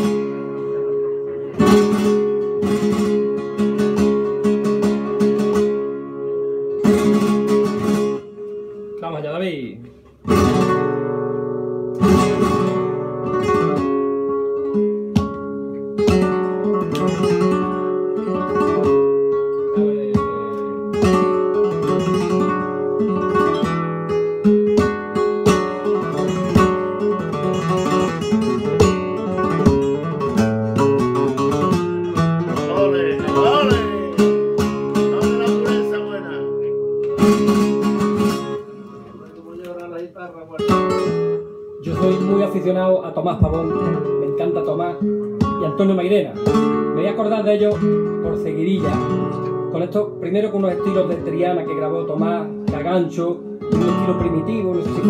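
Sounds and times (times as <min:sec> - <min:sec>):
flamenco guitar playing: 0:00.0 - 0:55.0.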